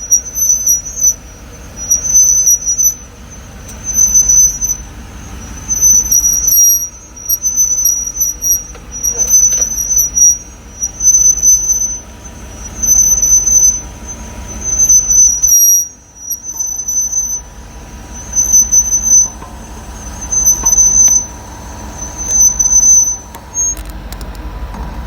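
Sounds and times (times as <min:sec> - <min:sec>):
high-pitched brake squeal: 0:00.0 - 0:24.3
low drivetrain rumble: 0:00.0 - 0:25.0.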